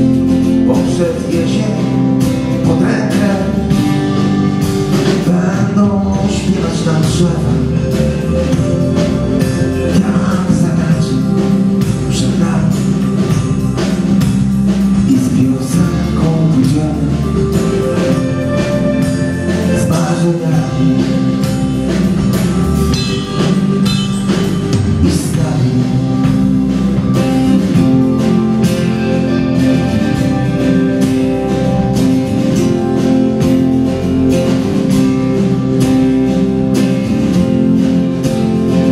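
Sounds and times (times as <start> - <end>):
drum kit beat: 0.0 - 38.9
live band playing: 0.0 - 38.9.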